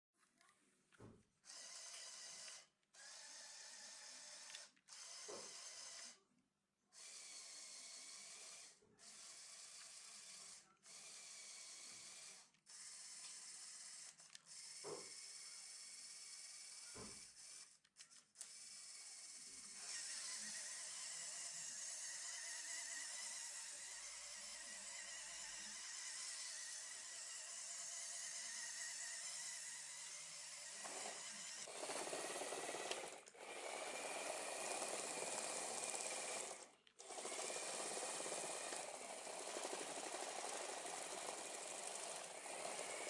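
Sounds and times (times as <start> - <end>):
toy motors whirring: 1.4 - 6.2, 6.9 - 43.0.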